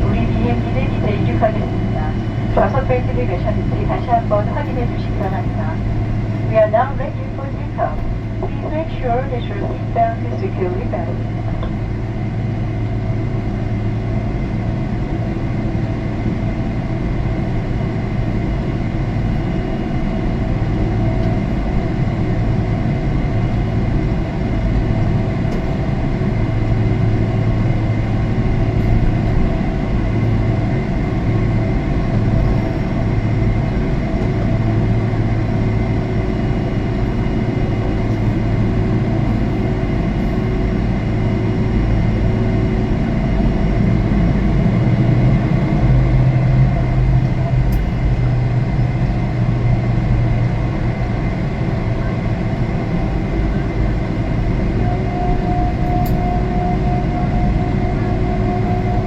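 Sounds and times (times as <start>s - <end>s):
jet engines and airflow drone: 0.0s - 59.0s
low hum: 0.0s - 59.0s.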